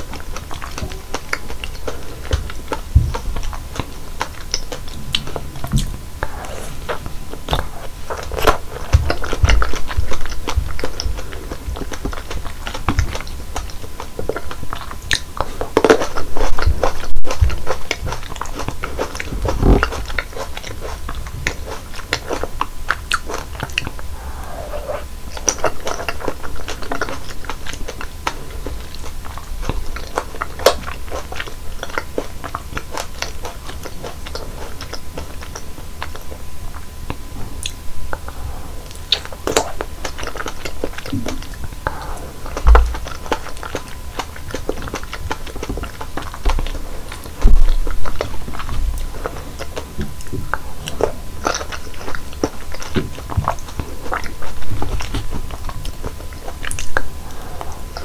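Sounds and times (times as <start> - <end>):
crunchy fruit biting and chewing: 0.0 - 58.0.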